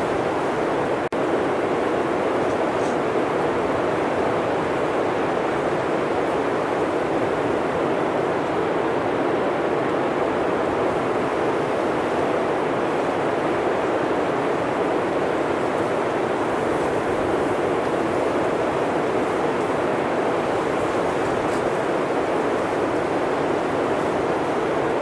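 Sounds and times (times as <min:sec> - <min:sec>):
blizzard wind through forest: 0:00.0 - 0:25.0.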